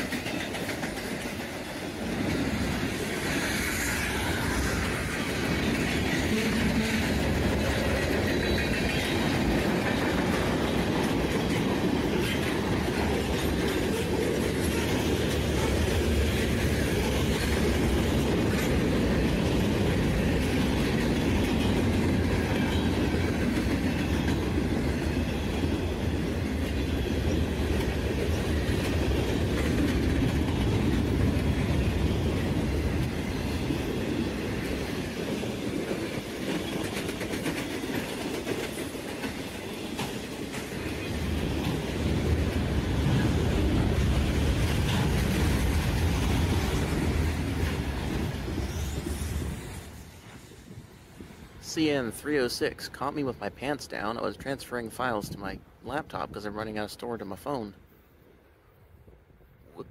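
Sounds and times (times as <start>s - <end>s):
wheels clacking over rail joints: 0.0s - 50.4s
freight train wheels rumbling: 0.0s - 57.7s.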